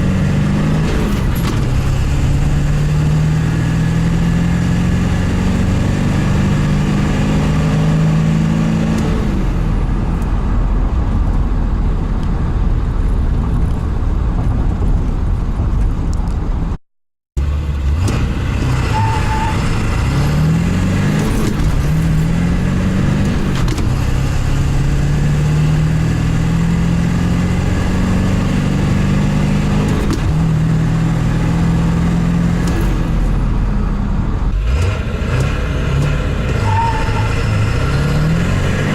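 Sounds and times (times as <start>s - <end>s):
diesel truck engine accelerating: 0.0s - 16.8s, 17.4s - 38.9s.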